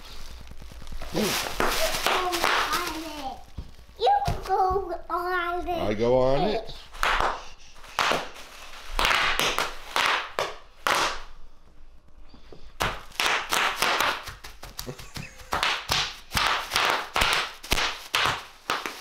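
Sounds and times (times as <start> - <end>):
bubble wrap crinkling and popping: 0.0 - 5.4, 6.7 - 19.0.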